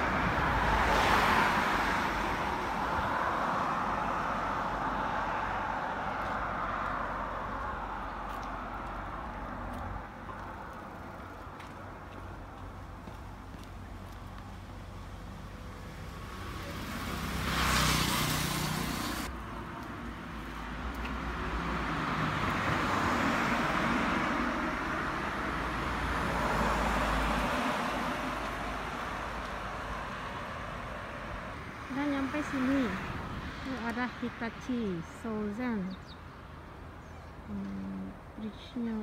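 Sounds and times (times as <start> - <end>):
cars passing: 0.0 - 39.0.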